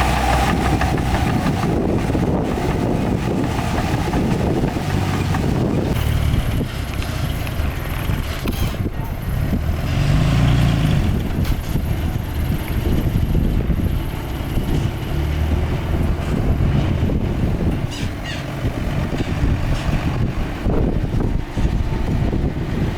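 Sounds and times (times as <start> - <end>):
diesel earthmoving machinery rumbling: 0.0 - 22.9.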